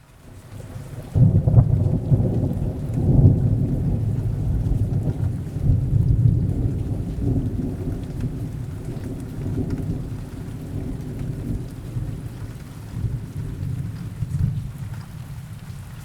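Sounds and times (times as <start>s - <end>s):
steady rain: 0.0s - 16.0s
thunder rumbling: 0.3s - 16.0s.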